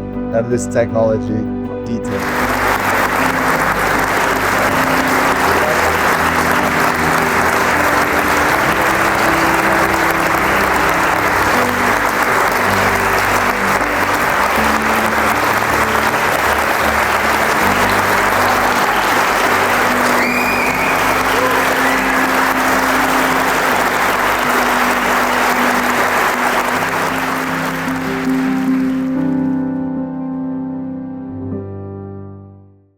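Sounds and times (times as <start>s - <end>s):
background music of low notes: 0.0s - 32.5s
audience applauding: 2.0s - 29.7s.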